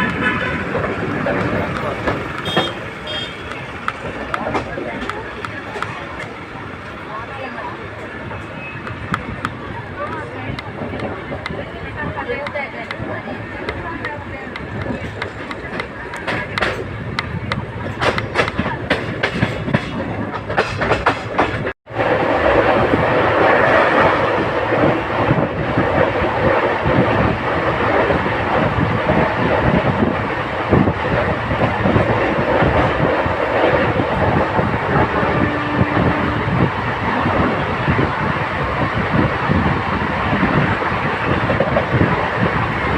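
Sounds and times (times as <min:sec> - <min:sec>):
train wheels clicking over rail joints: 0:00.0 - 0:07.0, 0:07.8 - 0:42.9
train rumbling: 0:00.0 - 0:42.9.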